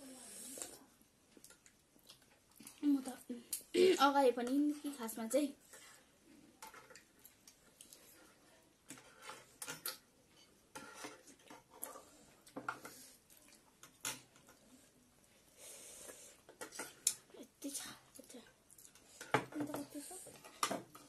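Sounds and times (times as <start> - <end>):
soft eating noises: 0.0 - 21.0.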